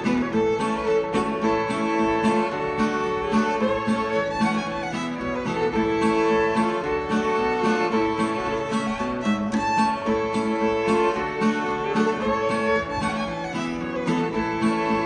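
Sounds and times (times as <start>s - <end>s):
fiddle playing a tune: 0.0s - 15.0s
guitar strumming: 0.0s - 15.0s.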